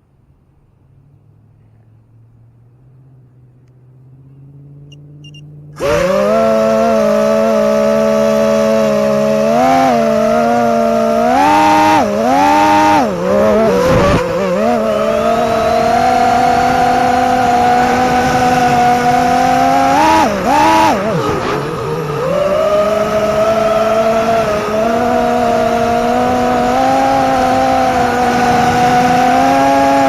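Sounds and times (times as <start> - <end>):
drone motors whining: 4.8 - 30.0.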